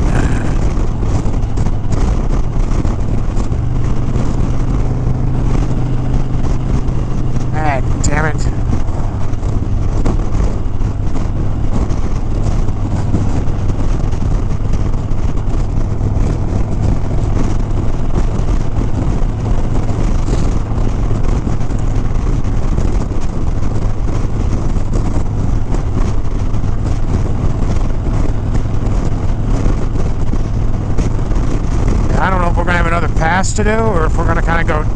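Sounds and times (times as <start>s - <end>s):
motorcycle engine cruising: 0.0s - 34.9s
wind rush on microphone: 0.0s - 34.9s.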